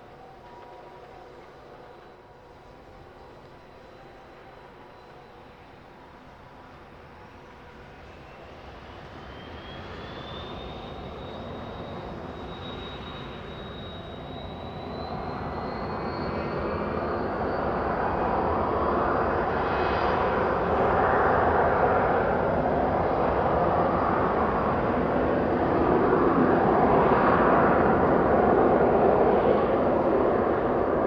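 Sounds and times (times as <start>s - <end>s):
jet engines whining and roaring: 5.4s - 31.0s.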